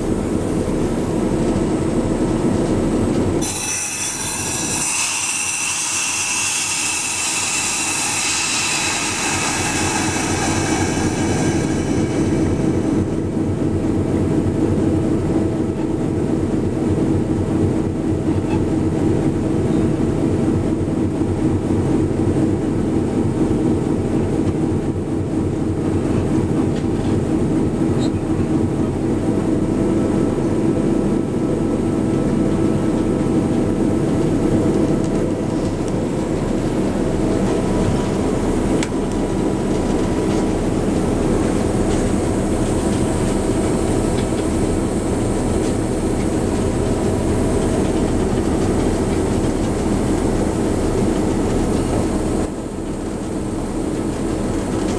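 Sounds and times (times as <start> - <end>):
diesel locomotive running: 0.0 - 54.9.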